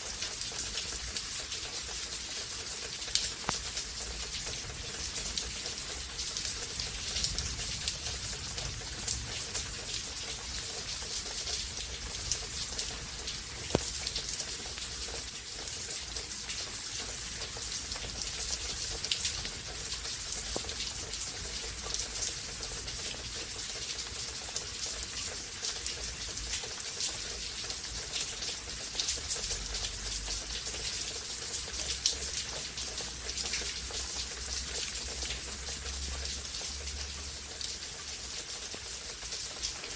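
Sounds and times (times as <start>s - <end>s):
steady rain falling: 0.0s - 39.9s
water drips and splashes: 0.0s - 39.9s.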